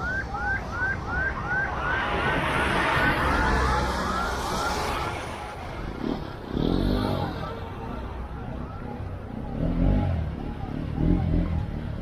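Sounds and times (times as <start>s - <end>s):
emergency siren wailing: 0.0s - 12.0s
light road traffic: 0.0s - 12.0s.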